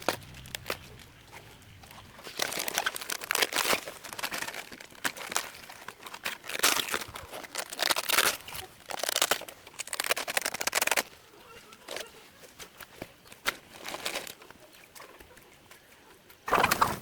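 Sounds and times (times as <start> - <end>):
dry rustling and crinkling: 0.0 - 17.0.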